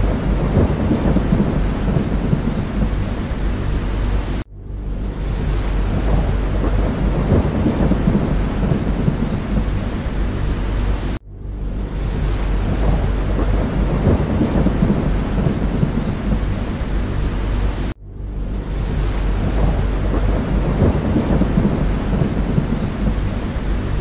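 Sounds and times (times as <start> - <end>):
deep low rumble: 0.0 - 24.0
steady rain: 0.0 - 24.0.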